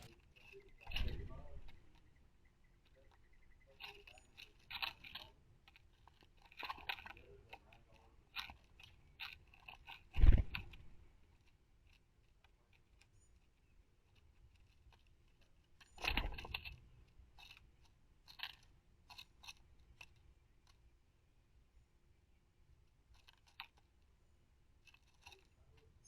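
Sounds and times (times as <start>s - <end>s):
birds pecking at seed: 0.0s - 26.0s.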